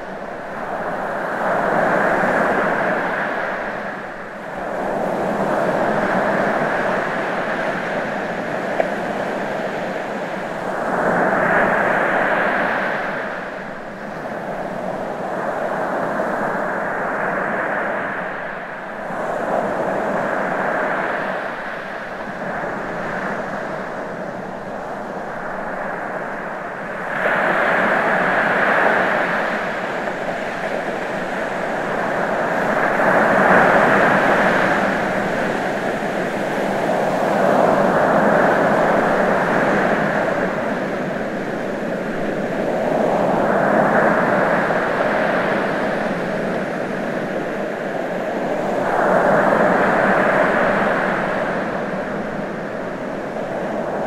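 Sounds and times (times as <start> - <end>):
ocean waves washing: 0.0 - 54.0.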